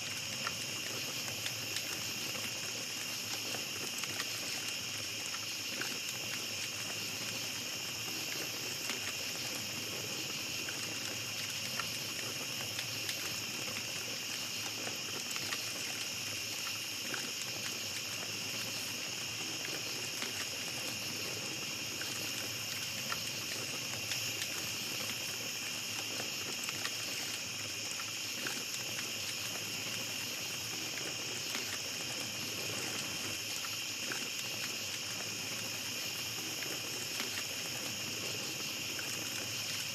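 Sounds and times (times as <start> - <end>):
campfire crackling and popping: 0.0 - 39.9
night insects chorus: 0.0 - 39.9.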